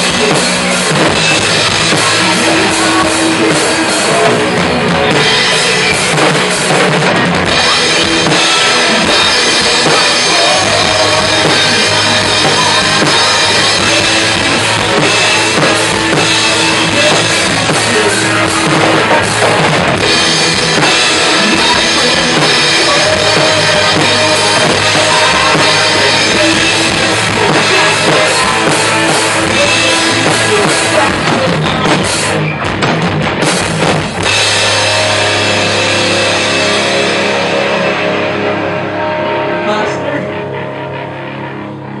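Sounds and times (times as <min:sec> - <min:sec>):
drum kit with cymbals: 0:00.0 - 0:38.6
bass guitar: 0:00.0 - 0:42.0
electric guitars: 0:00.0 - 0:42.0.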